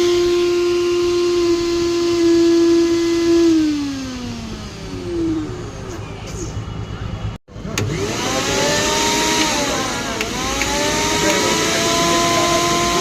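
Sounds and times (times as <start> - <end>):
mixer grinder motor whining: 0.0 - 6.2, 7.5 - 13.0.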